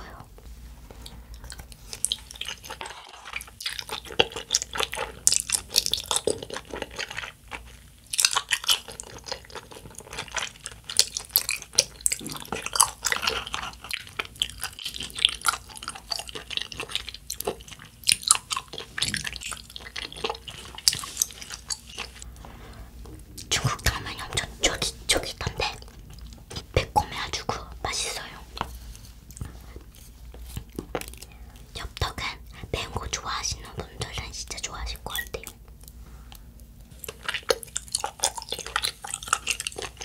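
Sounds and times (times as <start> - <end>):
wet chewing and slurping: 0.9 - 31.8, 35.0 - 40.0.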